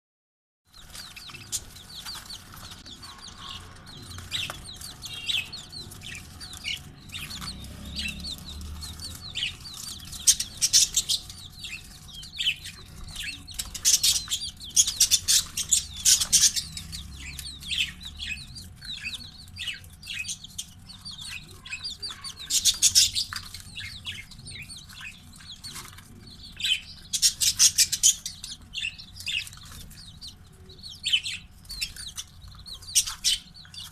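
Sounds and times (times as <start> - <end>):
baby chicks peeping: 0.7 - 33.9.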